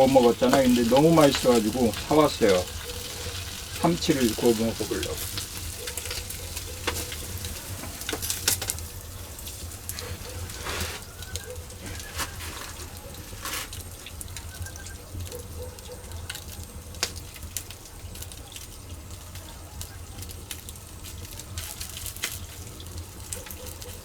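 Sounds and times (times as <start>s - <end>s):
fire crackling and popping: 0.0s - 24.0s
fish sizzling on a grill: 0.0s - 24.0s.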